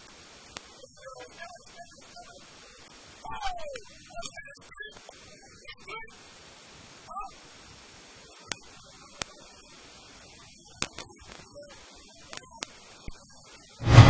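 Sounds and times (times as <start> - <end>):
faint voices: 0.0 - 13.7
faint steady hiss: 0.0 - 13.8.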